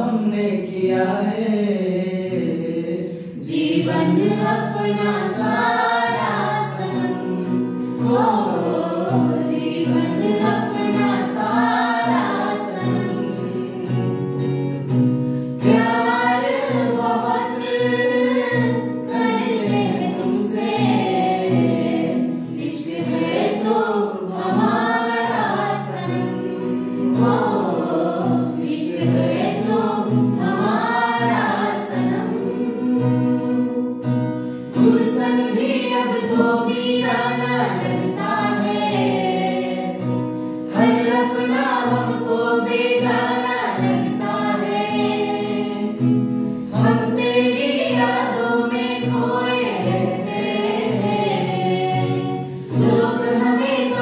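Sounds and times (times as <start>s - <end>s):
acoustic guitar chords: 0.0s - 54.0s
group singing: 0.0s - 54.0s.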